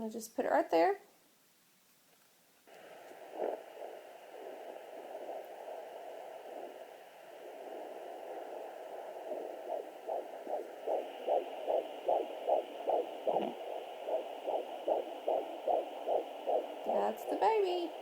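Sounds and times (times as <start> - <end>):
steady hiss: 1.8 - 18.0
fast heartbeat through doppler speaker: 2.7 - 18.0.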